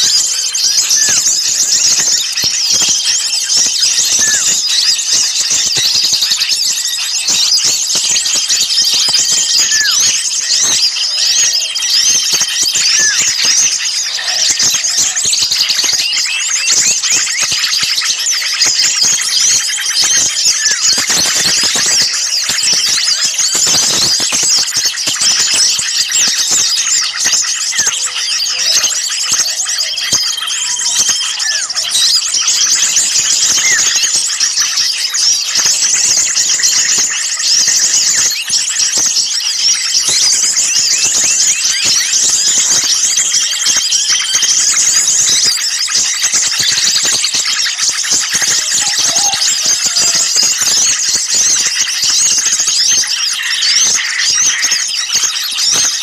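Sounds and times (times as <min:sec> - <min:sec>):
small songbirds chattering: 0:00.0 - 0:56.0.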